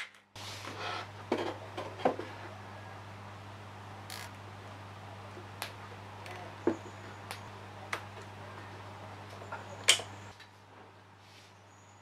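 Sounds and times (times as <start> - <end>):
steady low hum: 0.4 - 12.0.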